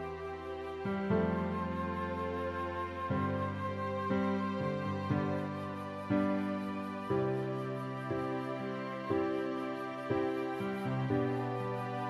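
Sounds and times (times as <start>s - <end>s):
slow sad background music: 0.0s - 12.0s.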